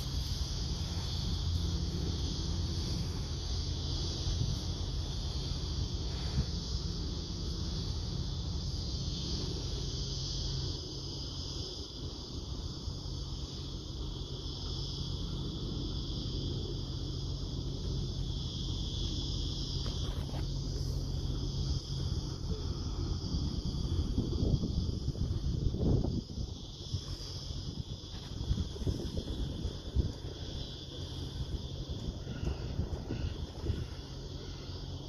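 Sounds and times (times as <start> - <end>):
distant jet airliner rumble: 0.0 - 35.0
high-pitched insect chorus: 0.0 - 35.0.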